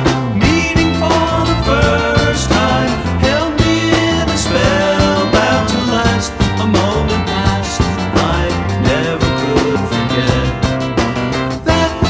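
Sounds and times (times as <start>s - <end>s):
pop-rock song: 0.0s - 12.0s.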